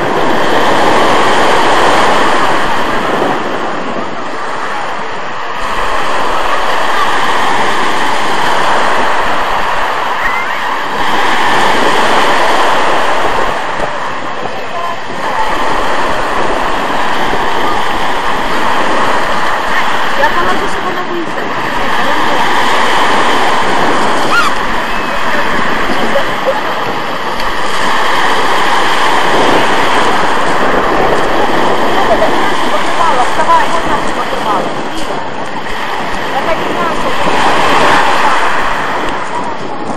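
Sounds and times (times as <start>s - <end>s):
waves breaking on pebble beach: 0.0s - 39.9s
wind buffeting microphone: 0.0s - 39.9s.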